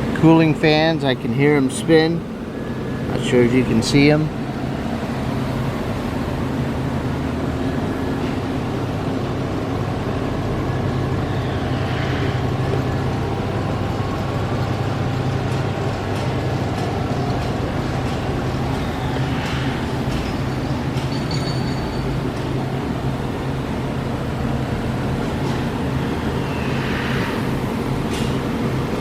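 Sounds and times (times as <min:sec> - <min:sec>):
oven cooling fans humming: 0:00.0 - 0:29.0.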